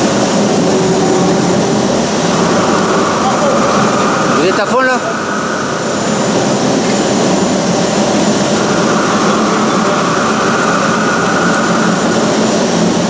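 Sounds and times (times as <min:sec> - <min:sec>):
lathe table running loudly: 0:00.0 - 0:13.0.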